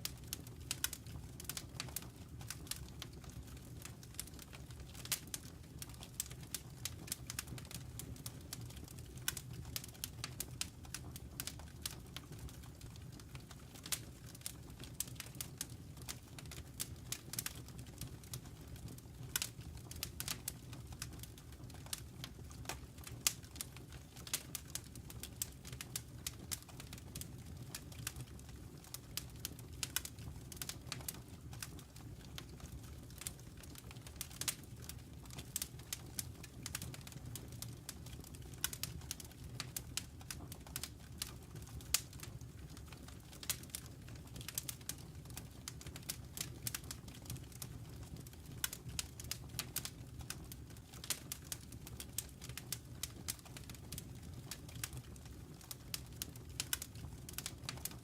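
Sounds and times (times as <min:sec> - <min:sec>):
fireplace crackling and popping: 0:00.0 - 0:58.0
low fire rumble: 0:00.0 - 0:58.0.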